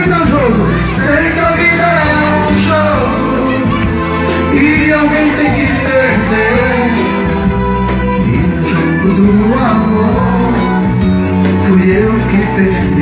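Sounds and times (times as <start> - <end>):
live band music through a pa: 0.0 - 13.0
person singing: 0.0 - 13.0.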